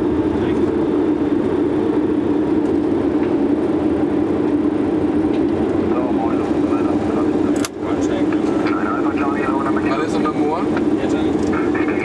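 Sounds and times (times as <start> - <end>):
aircraft engines: 0.0 - 12.0.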